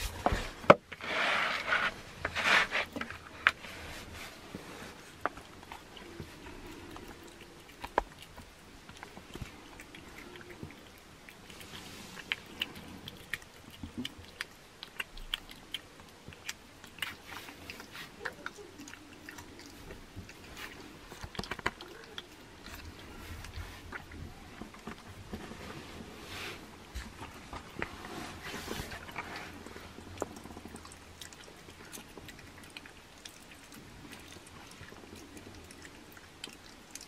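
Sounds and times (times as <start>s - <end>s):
cat chewing and licking: 0.0s - 37.0s.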